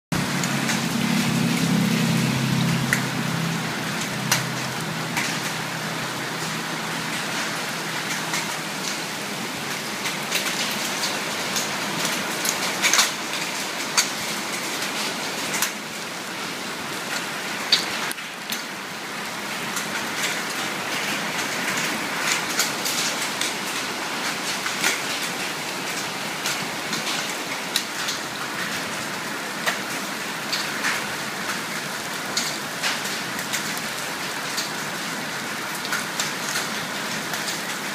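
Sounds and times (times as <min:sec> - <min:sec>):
rain on a metal roof: 0:00.1 - 0:37.9.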